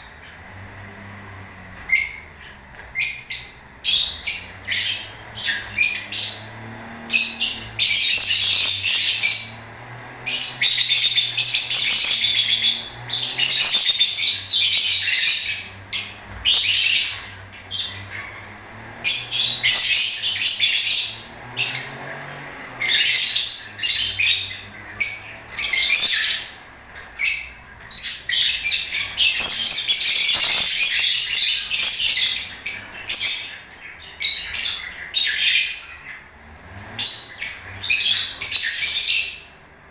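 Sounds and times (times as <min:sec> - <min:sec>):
lovebirds chattering: 0:00.0 - 0:39.6.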